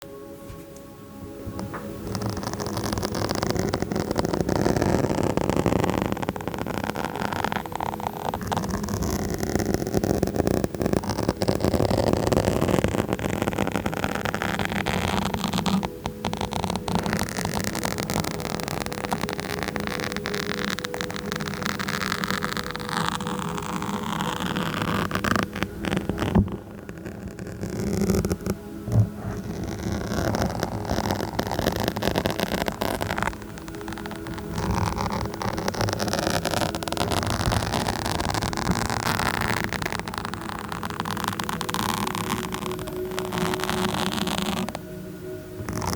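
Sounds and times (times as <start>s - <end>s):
scratching on microphone: 0.1s - 45.9s.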